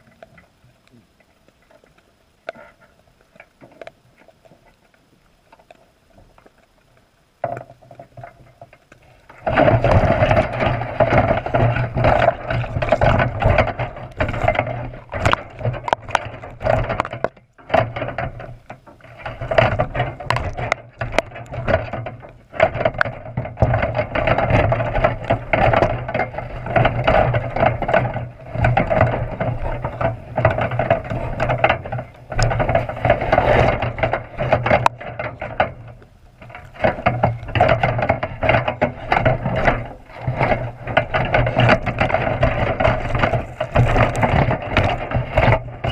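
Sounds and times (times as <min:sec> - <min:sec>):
muffled underwater trap rattling: 0:07.4 - 0:45.9.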